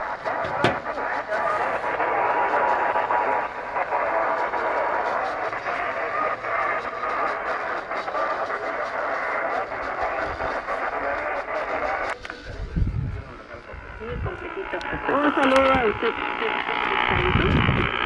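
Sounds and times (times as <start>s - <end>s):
faint emergency alert test: 0.0s - 8.1s, 11.6s - 18.0s
radio hiss and crackle: 0.0s - 18.0s.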